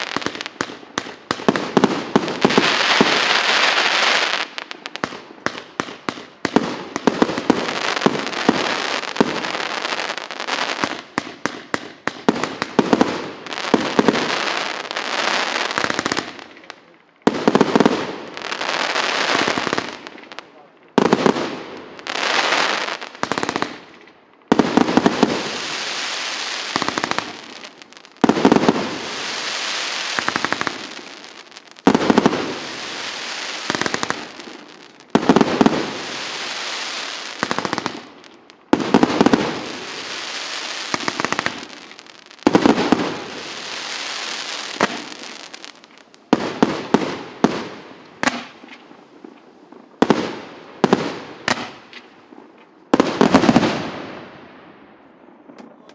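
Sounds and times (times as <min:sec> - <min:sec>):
firework volleys: 0:00.0 - 0:54.7
crackling firework stars: 0:00.0 - 0:55.9.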